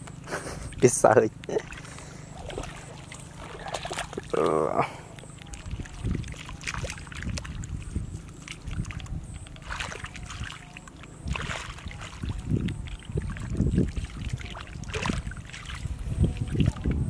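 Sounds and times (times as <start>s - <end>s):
muddy water sloshing and splashing: 0.2s - 17.0s.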